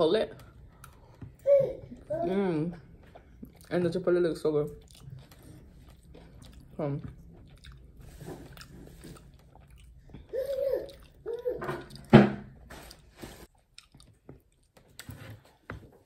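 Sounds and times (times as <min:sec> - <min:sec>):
chewing and eating: 0:00.3 - 0:16.0.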